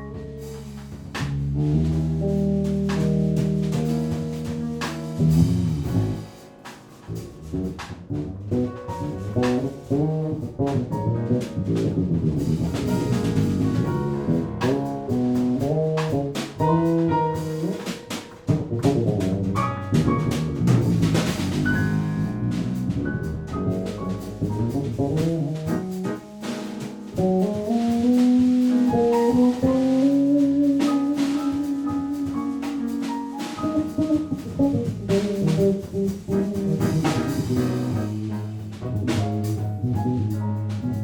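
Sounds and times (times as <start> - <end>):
jazz quartet playing live: 0.0 - 41.0.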